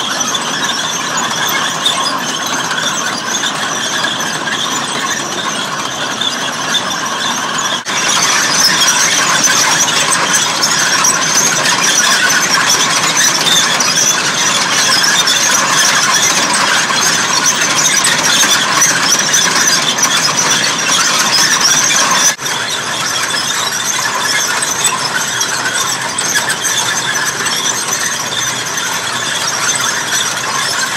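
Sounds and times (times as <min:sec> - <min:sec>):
tank tracks squealing and grinding: 0:00.0 - 0:30.9.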